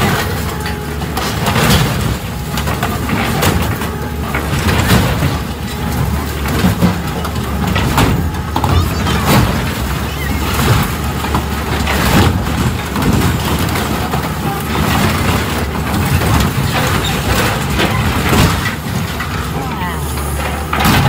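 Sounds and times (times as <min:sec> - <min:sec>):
diesel engine running under load: 0:00.0 - 0:21.0
metal crunching and banging: 0:00.0 - 0:21.0.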